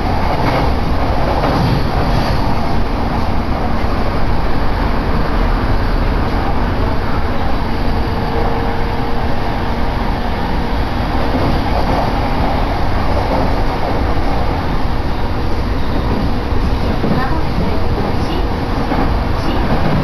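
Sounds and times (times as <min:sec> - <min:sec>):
train car rumbling on rails: 0:00.0 - 0:20.0.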